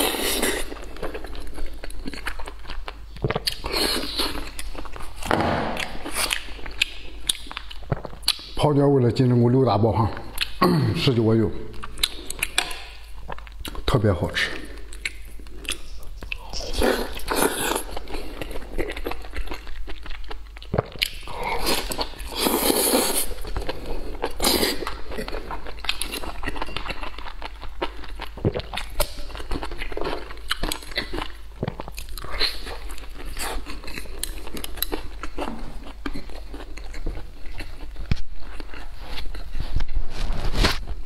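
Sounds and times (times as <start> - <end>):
person biting and chewing food: 0.0 - 8.6, 11.7 - 13.9, 14.7 - 41.0.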